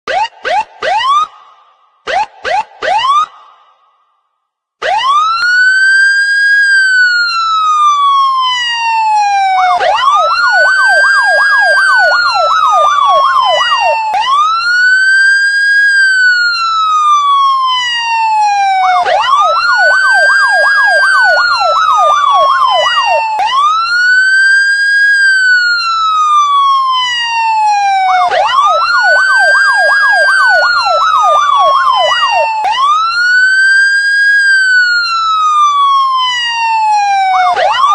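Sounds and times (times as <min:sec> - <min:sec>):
police siren wailing and yelping: 0:00.1 - 0:01.4, 0:02.1 - 0:03.4, 0:04.8 - 0:37.9.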